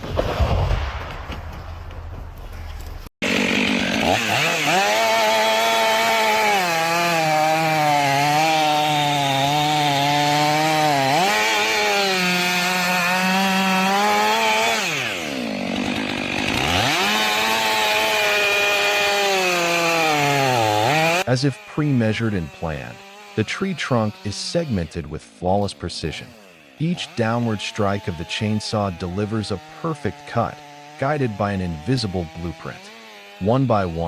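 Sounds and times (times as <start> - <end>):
chainsaw cutting tree trunk: 3.2 - 34.0.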